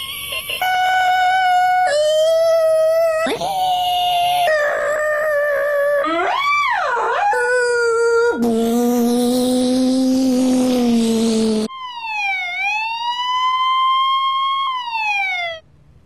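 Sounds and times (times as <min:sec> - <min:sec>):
people imitating police siren: 0:00.0 - 0:15.6.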